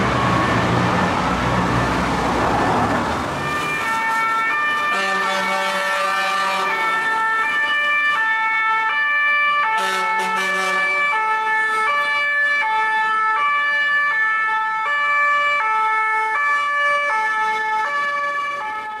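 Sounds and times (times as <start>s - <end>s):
two-tone emergency sirens: 0.0s - 19.0s.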